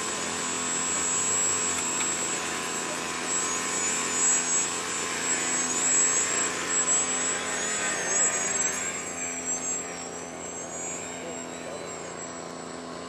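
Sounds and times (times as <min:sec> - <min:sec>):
model airplane motor whining: 0:00.0 - 0:13.0.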